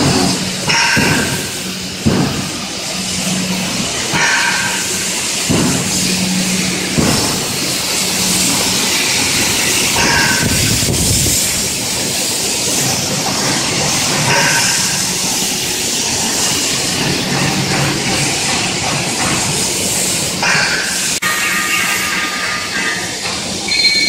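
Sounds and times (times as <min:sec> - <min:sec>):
factory floor noise: 0:00.0 - 0:24.0.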